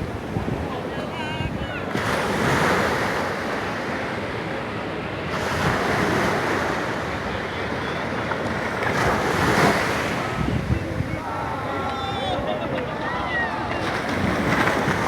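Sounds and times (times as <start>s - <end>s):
wind buffeting microphone: 0.0s - 2.7s, 5.4s - 15.0s
ocean surf breaking: 0.0s - 15.0s.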